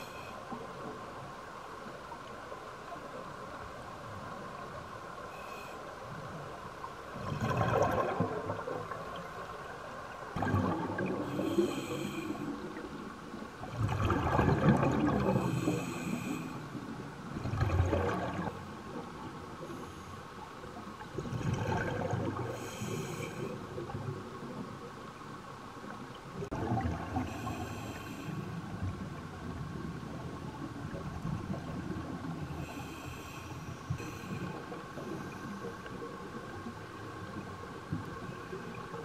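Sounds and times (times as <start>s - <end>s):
exhaled bubbles rumbling underwater: 6.0s - 19.8s, 20.6s - 33.3s, 33.9s - 39.0s.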